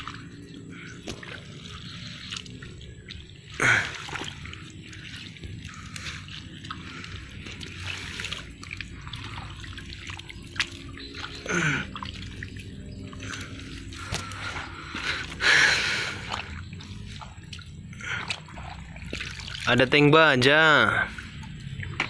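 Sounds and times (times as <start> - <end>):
hands squelching in mud: 0.0 - 22.0
water drips and trickles: 0.0 - 22.0.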